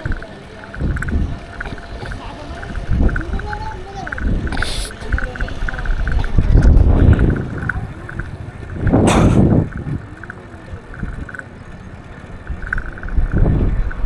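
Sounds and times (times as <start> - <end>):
faint irregular ticks: 0.0 - 9.0, 9.7 - 14.0
wind on microphone: 0.0 - 10.2, 12.5 - 14.0.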